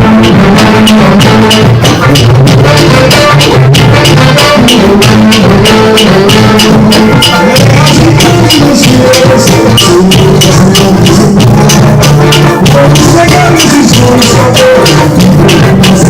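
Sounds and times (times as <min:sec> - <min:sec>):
samba percussion group playing: 0:00.0 - 0:16.0.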